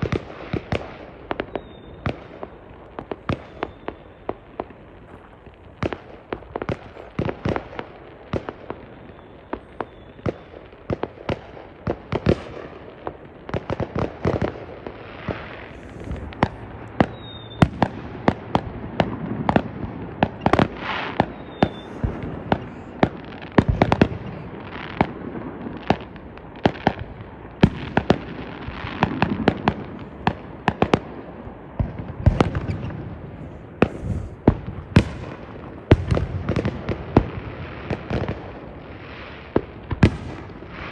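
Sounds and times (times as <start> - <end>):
fireworks bangs and pops: 0.0 - 40.9
fireworks crackle: 0.0 - 40.9.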